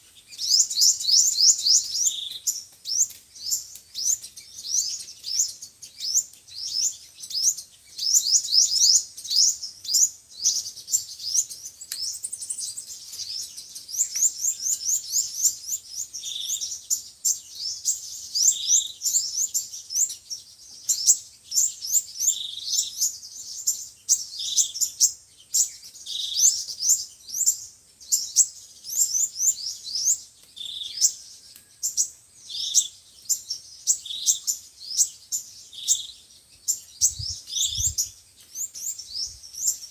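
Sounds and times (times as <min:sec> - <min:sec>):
sunbirds twittering: 0:00.0 - 0:39.9.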